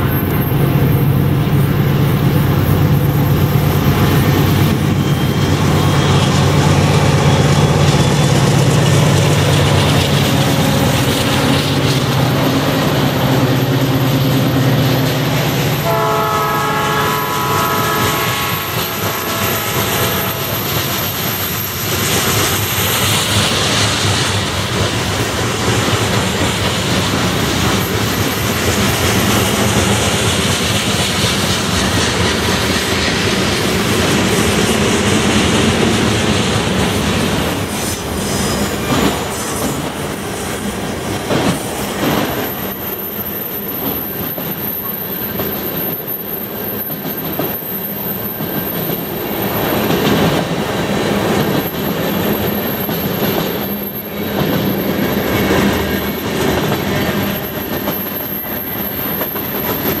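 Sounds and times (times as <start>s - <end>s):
high wheel squeal: 0.0s - 35.3s, 36.1s - 60.0s
train wheels rumbling and clacking: 0.0s - 60.0s.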